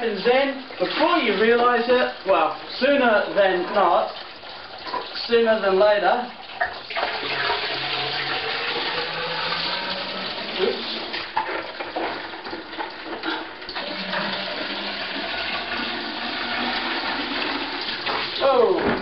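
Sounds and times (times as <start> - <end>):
water running into container: 0.0 - 19.0.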